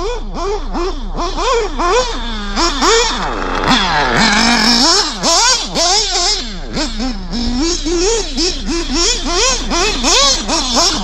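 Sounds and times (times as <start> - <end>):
model car engine revving: 0.0 - 11.0.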